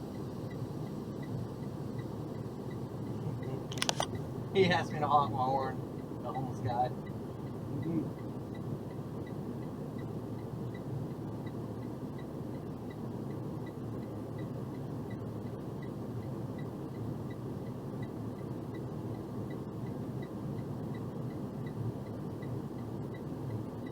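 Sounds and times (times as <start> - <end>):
faint high ticking: 0.0 - 23.9
truck engine and road rumble: 0.0 - 23.9.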